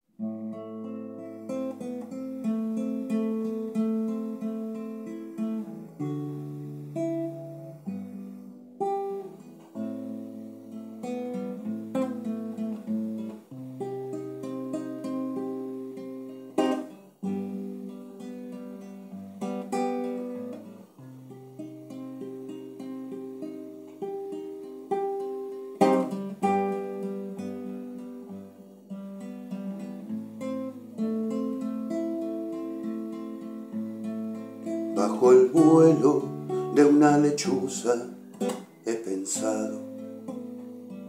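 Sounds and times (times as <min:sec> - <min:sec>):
classical guitar solo: 0:00.1 - 0:41.0.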